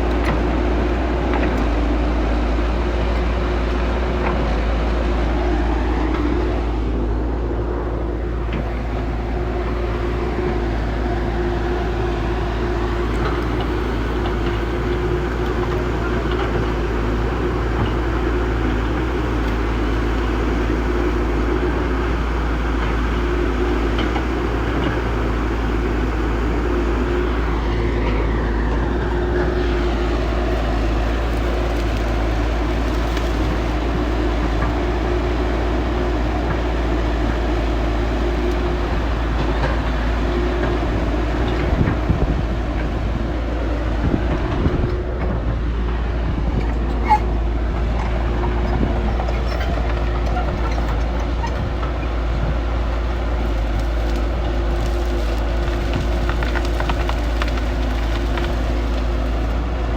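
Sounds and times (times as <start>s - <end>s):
heavy machinery droning: 0.0s - 59.9s.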